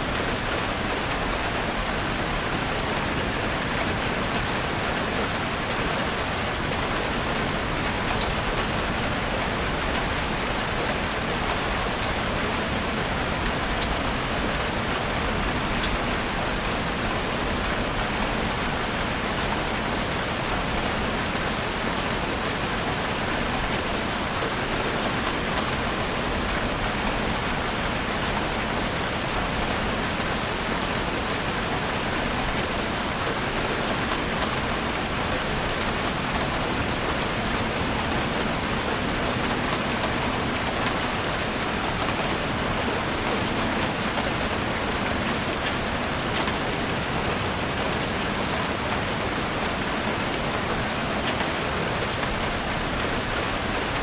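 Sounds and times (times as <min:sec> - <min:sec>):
heavy rain drumming on a roof: 0:00.0 - 0:54.0.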